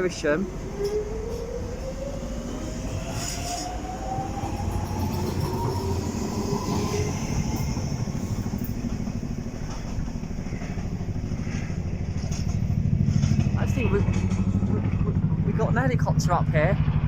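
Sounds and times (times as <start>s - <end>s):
train wheels rumbling on track: 0.0s - 17.0s
train motor whine: 0.4s - 15.0s.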